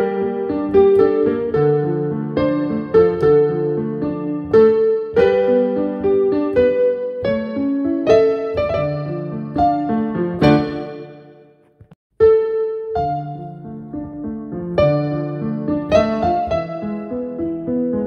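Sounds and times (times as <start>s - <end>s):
digital piano chords: 0.0s - 18.0s.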